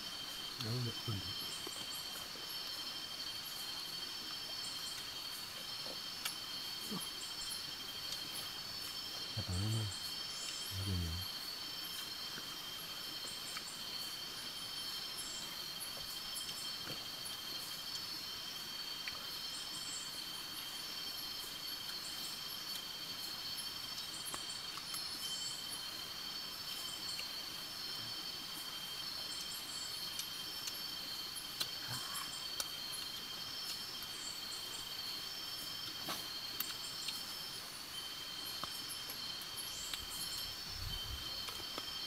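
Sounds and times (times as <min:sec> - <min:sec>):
insects chirping and trilling: 0:00.0 - 0:42.0.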